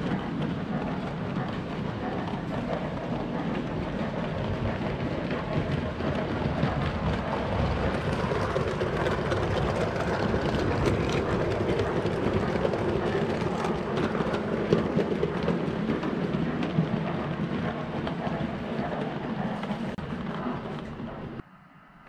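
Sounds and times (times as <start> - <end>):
model train wheels rumbling: 0.0 - 21.4
rail joint clicks: 0.0 - 21.4.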